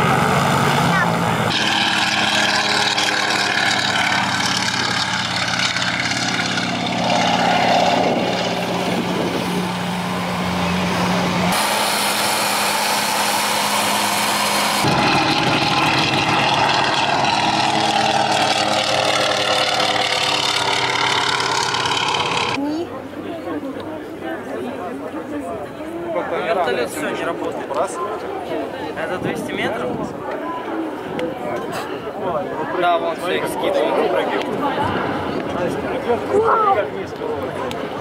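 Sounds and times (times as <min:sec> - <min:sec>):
propeller plane engine droning: 0:00.0 - 0:25.8, 0:26.4 - 0:38.0.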